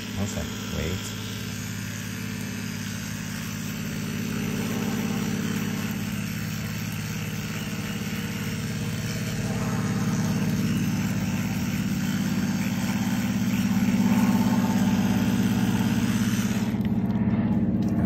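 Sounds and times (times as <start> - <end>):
electric toothbrush buzzing: 0.0 - 18.0.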